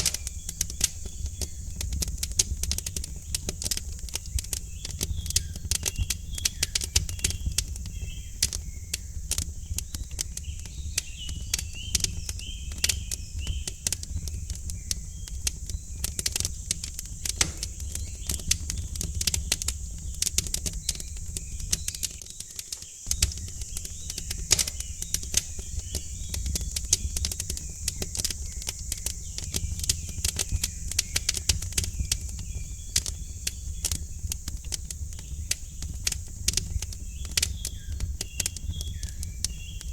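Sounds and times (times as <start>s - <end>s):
small birds chirping: 0.0s - 39.9s
wood fire crackling and popping: 0.0s - 39.9s.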